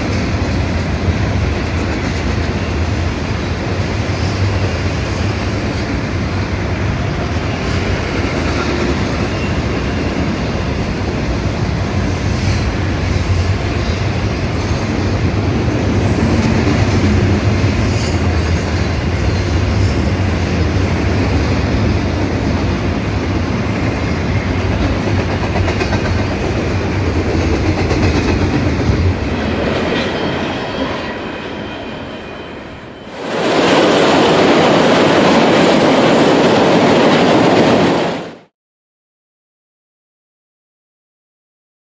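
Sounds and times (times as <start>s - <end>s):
train wheels rumbling on rail: 0.0s - 38.5s.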